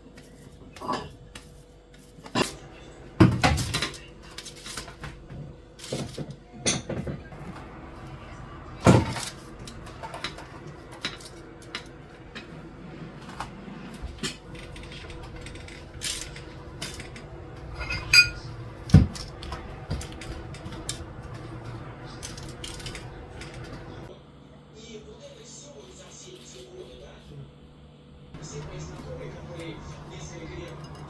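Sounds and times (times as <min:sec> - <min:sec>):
utensils and dishes clinking: 0:00.0 - 0:12.6, 0:13.2 - 0:24.1, 0:28.4 - 0:31.0.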